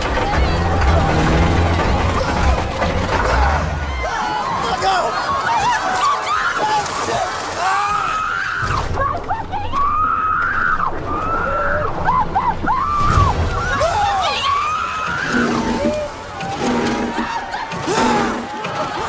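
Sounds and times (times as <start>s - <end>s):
low rumble of churning water: 0.0s - 19.0s
people screaming: 0.0s - 19.0s.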